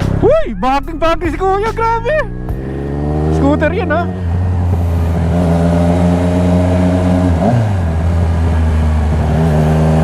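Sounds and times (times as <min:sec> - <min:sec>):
motorcycle engine revving: 0:01.8 - 0:10.0.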